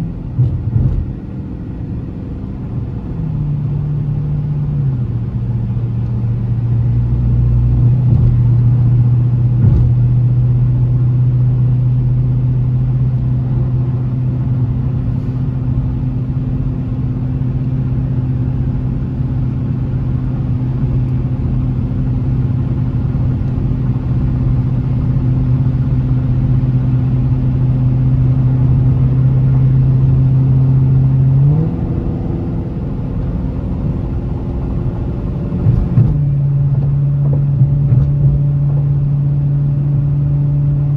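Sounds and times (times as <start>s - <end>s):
car engine droning: 0.0s - 40.9s.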